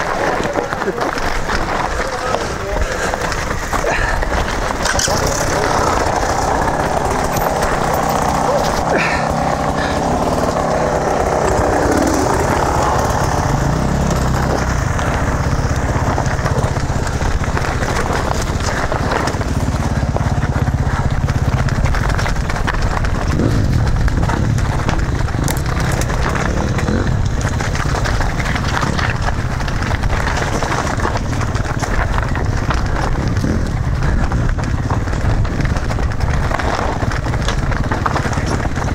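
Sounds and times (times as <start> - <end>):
bike clattering on rocky trail: 0.0 - 38.9
dirt bike engines running: 0.0 - 38.9.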